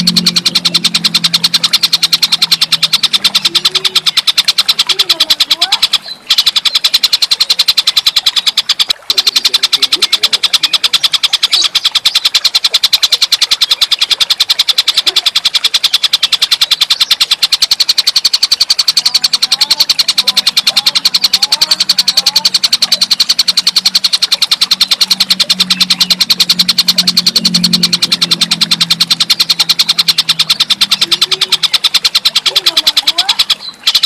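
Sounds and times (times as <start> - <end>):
low hum: 0.0 - 34.0
rapid harsh chatter call: 0.0 - 34.0.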